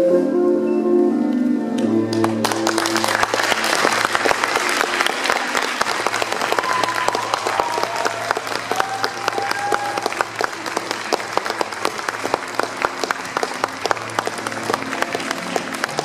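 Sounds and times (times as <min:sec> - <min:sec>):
closing music: 0:00.0 - 0:16.0
audience applause: 0:02.1 - 0:16.0.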